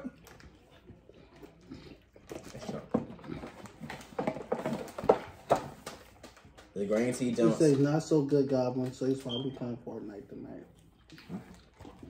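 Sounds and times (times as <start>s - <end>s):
people chewing: 0.0s - 9.4s, 10.4s - 12.0s.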